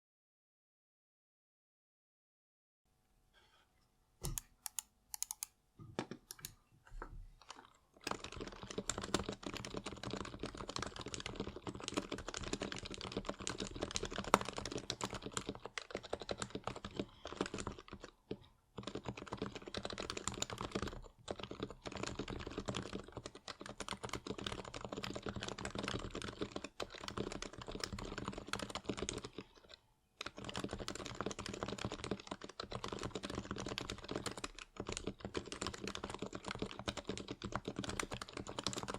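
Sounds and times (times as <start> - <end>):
muted keyboard typing: 4.2 - 6.6, 7.4 - 38.9.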